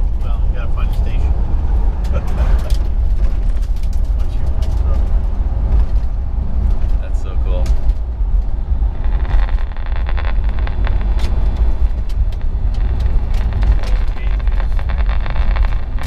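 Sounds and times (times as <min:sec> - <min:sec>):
radio static hiss and crackle: 0:00.0 - 0:16.0
road and engine rumble: 0:00.0 - 0:16.0.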